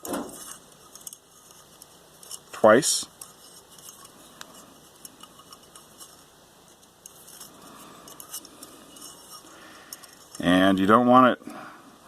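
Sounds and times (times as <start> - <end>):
wire clicking as handled: 0.0 - 10.5.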